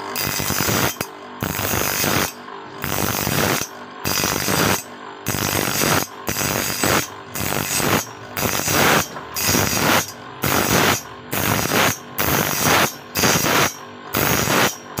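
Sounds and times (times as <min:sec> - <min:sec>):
grinding disc on metal: 0:00.0 - 0:15.0.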